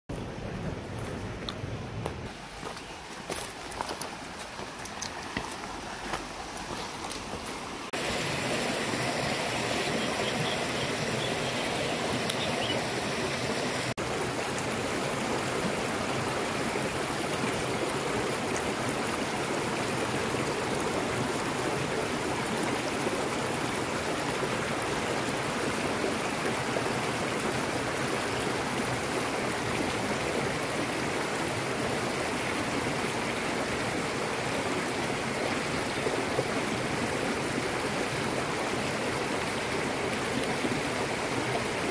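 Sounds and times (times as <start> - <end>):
river running over rocks: 2.0 - 41.9.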